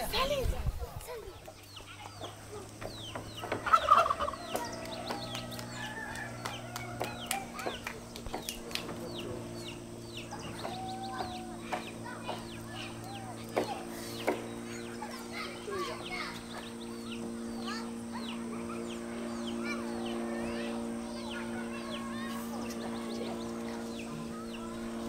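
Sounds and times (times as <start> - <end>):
steady low hum: 0.0 - 25.0
chickens peeping and clucking: 0.4 - 25.0.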